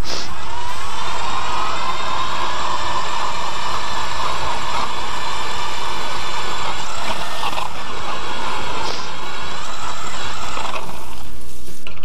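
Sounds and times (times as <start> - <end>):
auger grinding through ice: 0.0 - 11.9
electric ice auger motor whine: 0.3 - 11.5.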